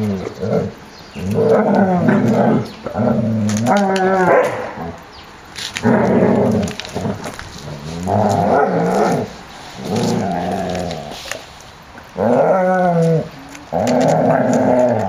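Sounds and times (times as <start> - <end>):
puppies growling: 0.0 - 5.0, 5.8 - 11.5, 12.1 - 15.0.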